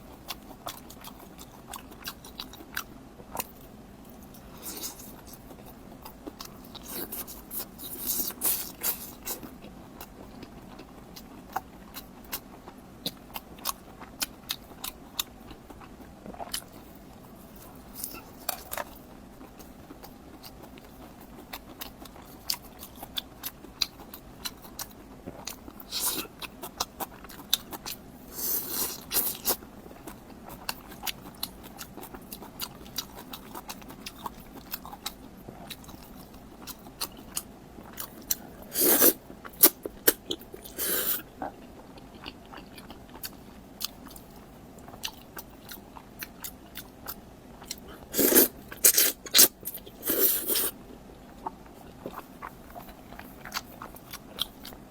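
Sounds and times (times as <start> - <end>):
chewing crisp food: 0.0 - 54.9.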